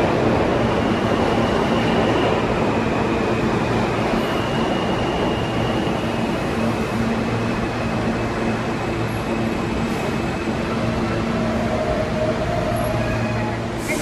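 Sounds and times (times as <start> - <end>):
train running: 0.0 - 14.0.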